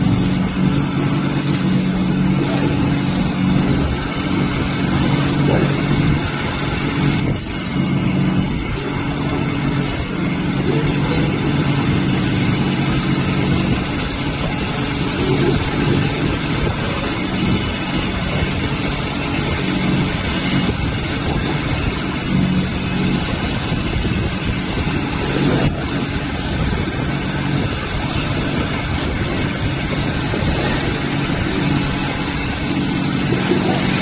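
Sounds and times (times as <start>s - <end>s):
polishing machine hum and whir: 0.0s - 34.0s.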